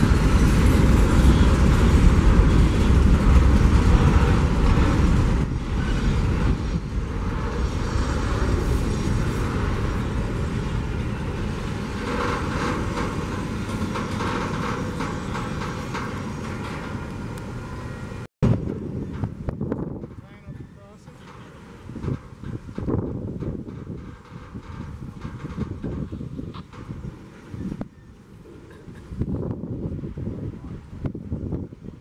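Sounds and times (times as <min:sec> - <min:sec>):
freight train rolling on rails: 0:00.0 - 0:32.0.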